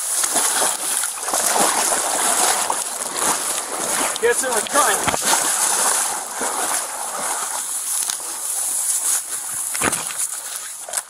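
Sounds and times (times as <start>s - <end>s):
reeds and grass rustling: 0.0s - 11.0s.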